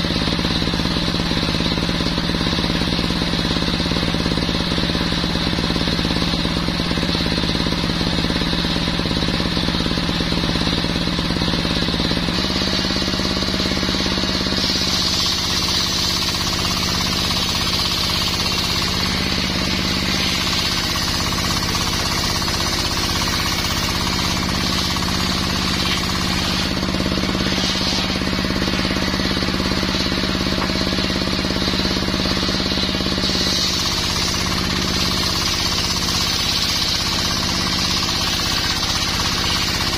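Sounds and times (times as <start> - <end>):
saw blade whining in wood: 0.0 - 39.9
small petrol engine running: 0.0 - 39.9.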